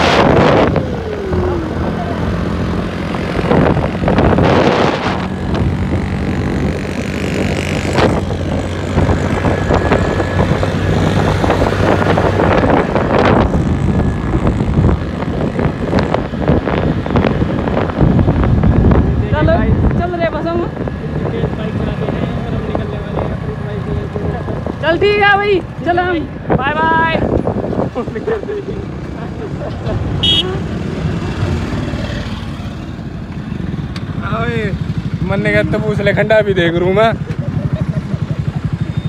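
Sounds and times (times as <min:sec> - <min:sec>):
wind buffeting microphone: 0:00.0 - 0:36.3
motorcycle engine cruising: 0:00.0 - 0:39.0.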